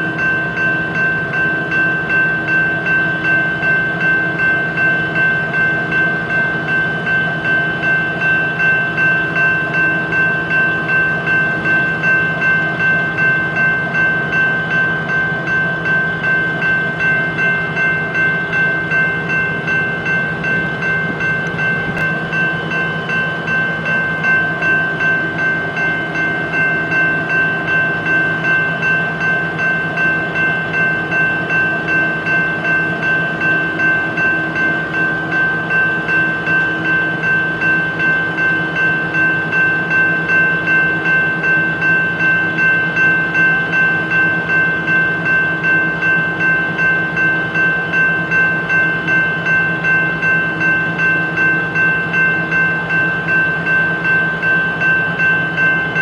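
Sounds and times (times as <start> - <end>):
crossing bell ringing: 0.0 - 56.0
low rumble of a train: 0.0 - 56.0.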